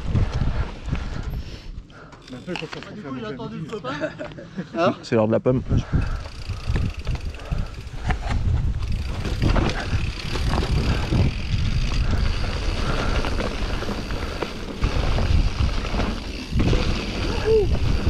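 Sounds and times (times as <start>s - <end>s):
bike tyres rumbling on trail: 0.0s - 2.7s, 5.8s - 18.0s
bike clicks and rattles: 0.0s - 4.5s, 5.8s - 18.0s.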